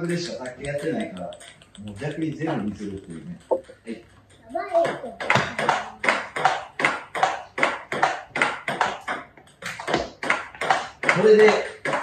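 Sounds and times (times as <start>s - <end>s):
ping pong ball clicking off paddles: 0.0s - 12.0s.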